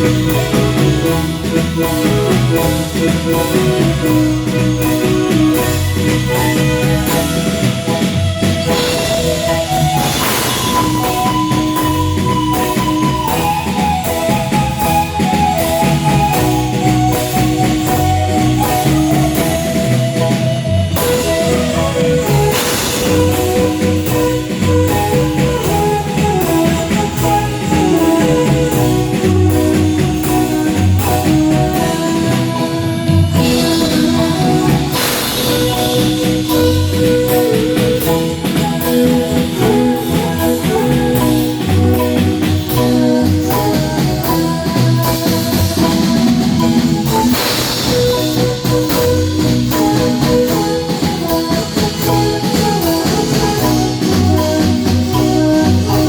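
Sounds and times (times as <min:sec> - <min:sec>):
drum kit and hand percussion: 0:00.0 - 0:56.0
marimba melody: 0:00.0 - 0:56.0.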